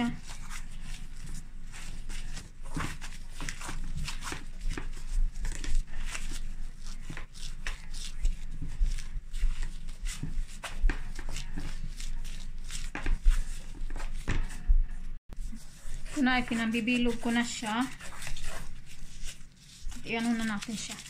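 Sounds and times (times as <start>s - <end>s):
plastic gloves crinkling: 0.0s - 21.0s.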